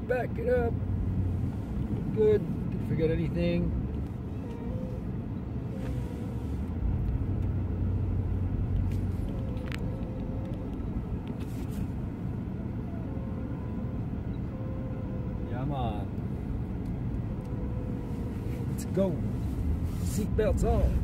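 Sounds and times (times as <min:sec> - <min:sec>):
truck engine rumbling: 0:00.0 - 0:21.0.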